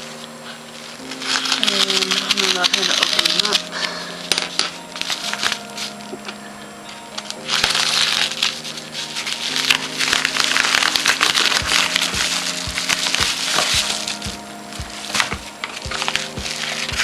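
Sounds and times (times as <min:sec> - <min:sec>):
paper mailer tearing: 0:00.0 - 0:06.0, 0:07.1 - 0:17.0
background music: 0:00.0 - 0:17.0.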